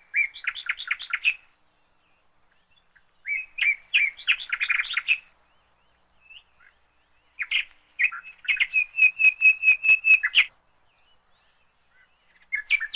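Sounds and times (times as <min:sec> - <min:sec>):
bird singing: 0:00.0 - 0:12.9.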